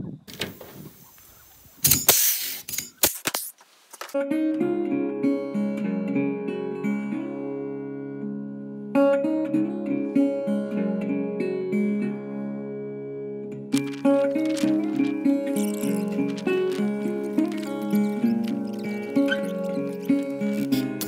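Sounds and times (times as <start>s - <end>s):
acoustic guitar music: 4.1s - 21.0s.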